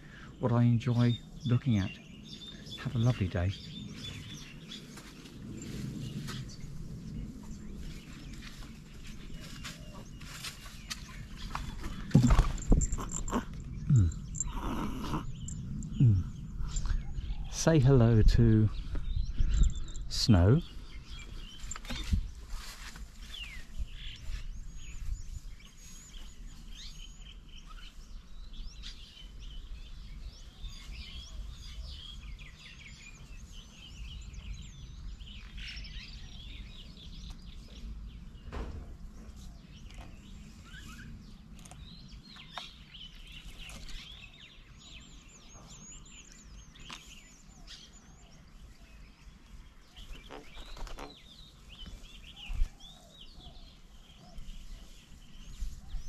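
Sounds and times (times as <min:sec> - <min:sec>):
small birds chirping and whistling: 0:00.0 - 0:56.0.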